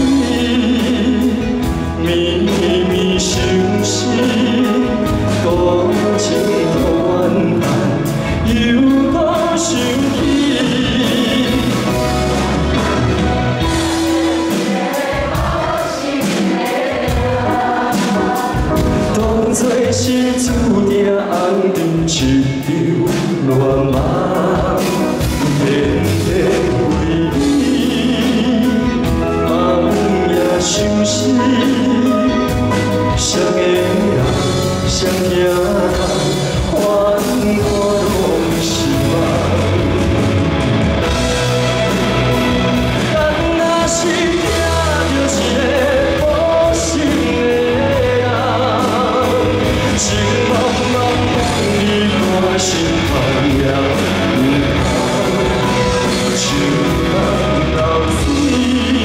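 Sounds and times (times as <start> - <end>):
live band playing pop: 0.0 - 59.0
person singing: 0.0 - 59.0.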